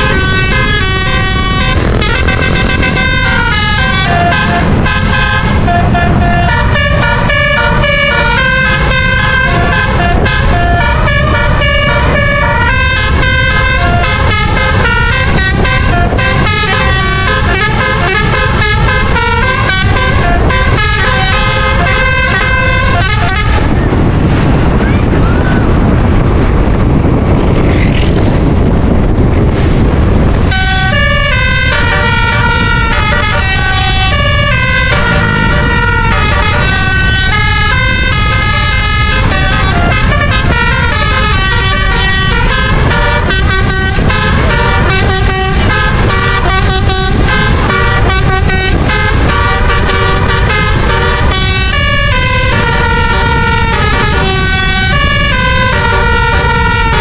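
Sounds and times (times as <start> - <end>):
musical air horn tune: 0.0 - 23.7, 30.4 - 57.0
bus engine and road noise: 0.0 - 57.0.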